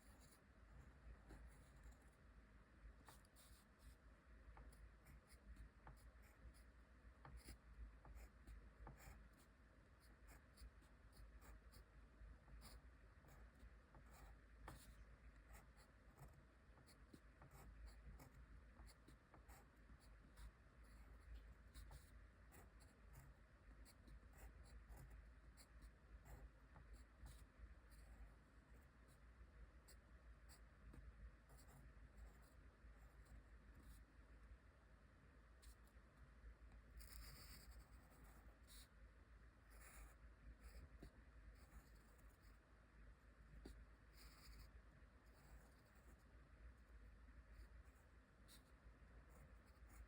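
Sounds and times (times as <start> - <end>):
handwriting on paper: 0.0 - 29.3, 29.9 - 34.1, 35.6 - 36.0, 36.7 - 39.0, 39.6 - 42.6, 43.5 - 50.0
low steady hum: 0.0 - 50.0.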